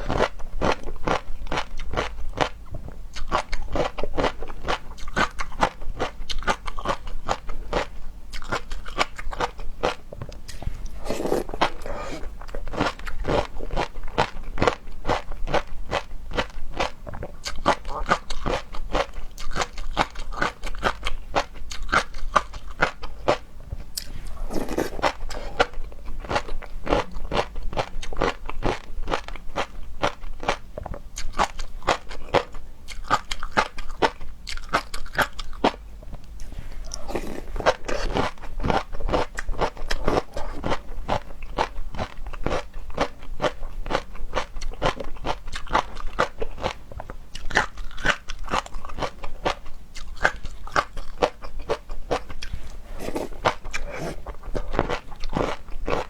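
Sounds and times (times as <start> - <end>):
chewing crunchy seafood: 0.0 - 35.8, 36.4 - 56.0.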